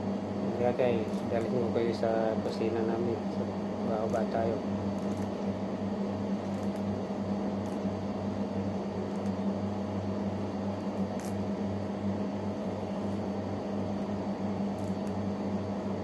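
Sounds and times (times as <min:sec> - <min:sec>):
electrical appliance humming: 0:00.0 - 0:16.0.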